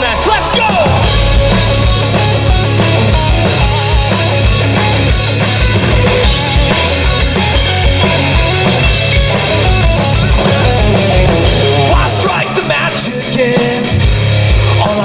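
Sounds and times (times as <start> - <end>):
drum kit: 0.0 - 15.0
live rock band playing: 0.0 - 15.0.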